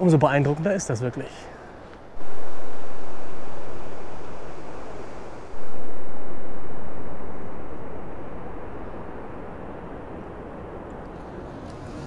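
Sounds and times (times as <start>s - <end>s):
low rushing noise: 1.7s - 12.0s.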